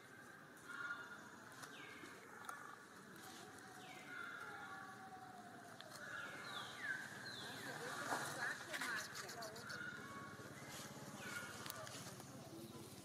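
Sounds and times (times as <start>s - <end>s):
forest background hiss: 0.0s - 13.0s.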